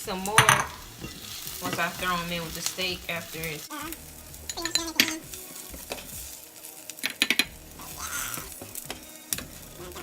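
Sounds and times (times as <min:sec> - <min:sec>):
light sizzle from pan: 0:00.0 - 0:10.0
utensil scraping frying pan: 0:00.1 - 0:03.7, 0:04.3 - 0:10.0.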